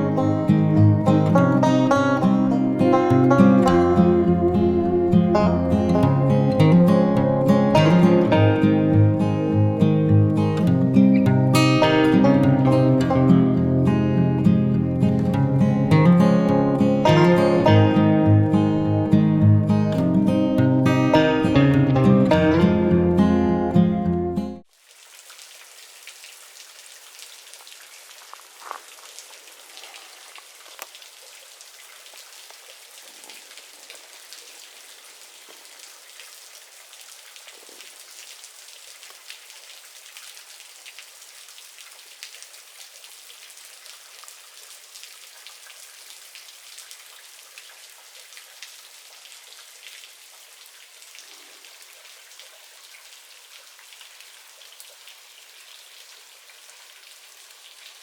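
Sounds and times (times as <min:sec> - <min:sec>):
rain patter: 0:00.0 - 0:58.0.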